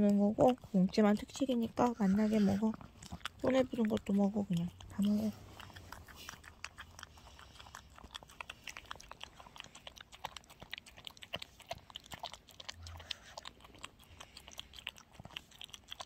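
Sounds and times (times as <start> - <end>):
dog lapping and chewing: 0.0 - 16.0.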